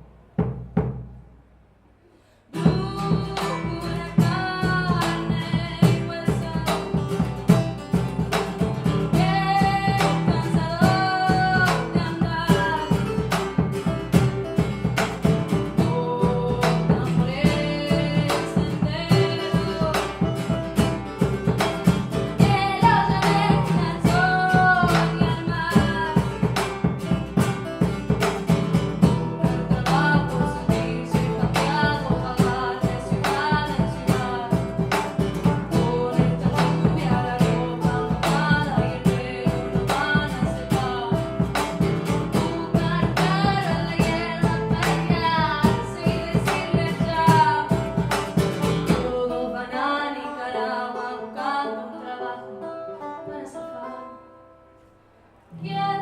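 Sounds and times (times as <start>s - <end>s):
woman singing: 2.5s - 54.4s, 55.5s - 56.0s
strummed guitar: 2.5s - 56.0s.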